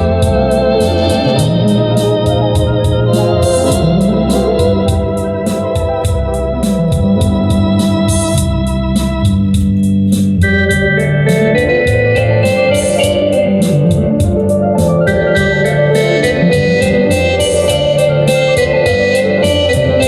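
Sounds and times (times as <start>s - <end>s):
electronic organ playing chords: 0.0s - 20.0s
rhythm accompaniment ticks: 0.0s - 20.0s.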